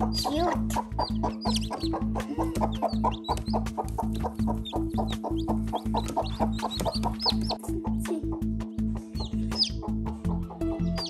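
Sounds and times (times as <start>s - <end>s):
background music with steady beat: 0.0s - 11.0s
chicks peeping: 0.0s - 11.0s.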